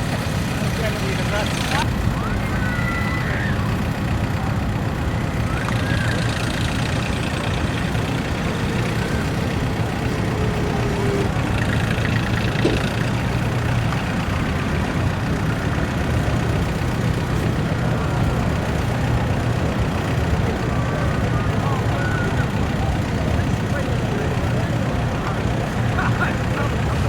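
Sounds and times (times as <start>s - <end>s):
faint voices: 0.0s - 27.0s
tractor engines droning: 0.0s - 27.0s.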